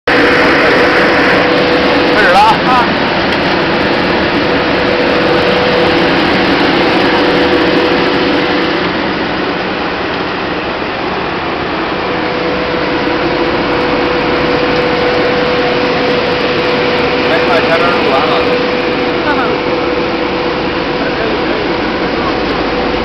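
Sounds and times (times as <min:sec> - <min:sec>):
seed cleaning machine din: 0:00.1 - 0:23.0
steady humming tone: 0:00.1 - 0:23.0.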